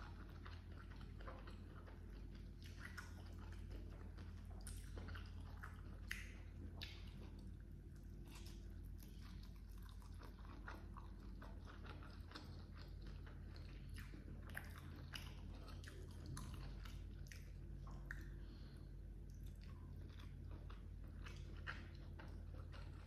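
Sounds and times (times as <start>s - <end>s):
low hum: 0.0s - 23.0s
person chewing food: 0.0s - 23.0s.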